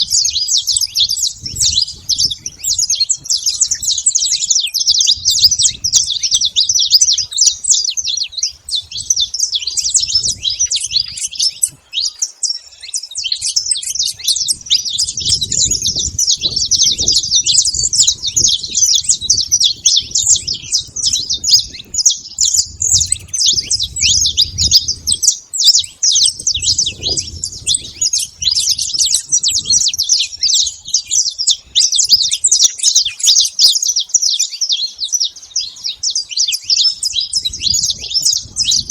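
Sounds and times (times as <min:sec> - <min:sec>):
finch singing: 0:00.0 - 0:38.9.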